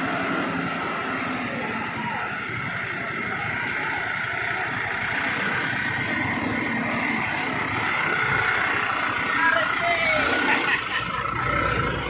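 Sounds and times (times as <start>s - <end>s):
passing truck traffic: 0.0s - 12.0s.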